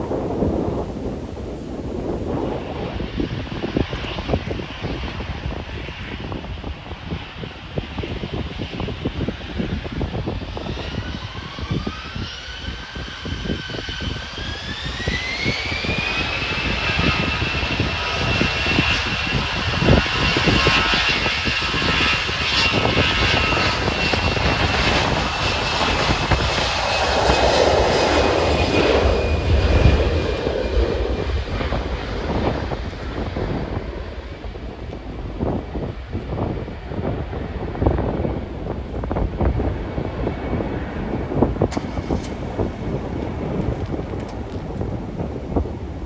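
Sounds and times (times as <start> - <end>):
airliner engines whining: 0.0 - 46.0
wind buffeting microphone: 0.0 - 46.0.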